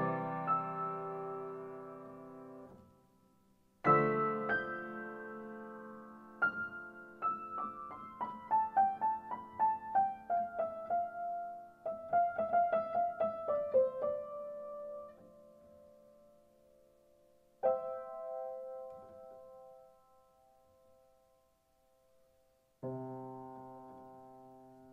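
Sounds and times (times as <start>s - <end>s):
piano music: 0.0s - 16.4s, 17.6s - 21.3s, 22.8s - 24.9s.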